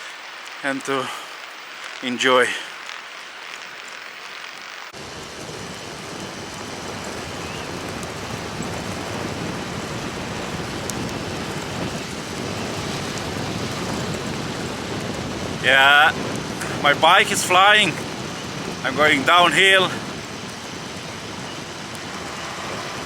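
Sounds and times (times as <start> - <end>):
road noise: 0.0 - 23.0
rushing wind: 0.0 - 23.0.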